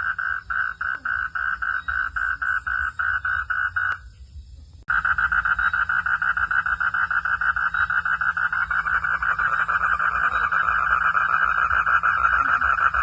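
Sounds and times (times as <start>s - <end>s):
frog pulsed trill: 0.0s - 4.1s, 4.9s - 13.0s.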